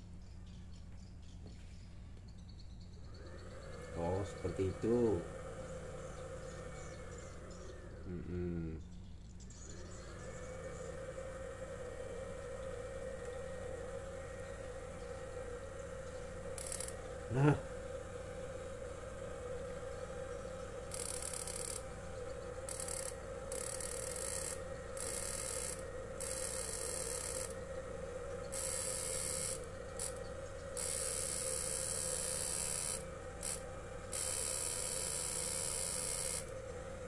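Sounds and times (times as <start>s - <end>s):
high hissing whine: 0.0s - 37.0s
inverter humming: 2.2s - 37.0s.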